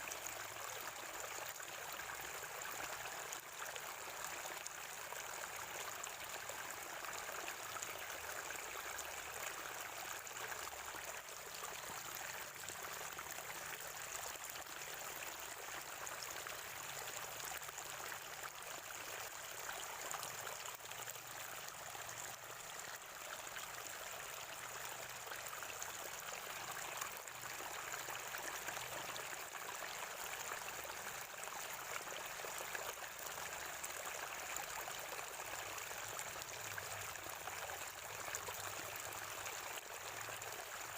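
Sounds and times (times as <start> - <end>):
spring water flowing and gurgling: 0.0 - 40.9.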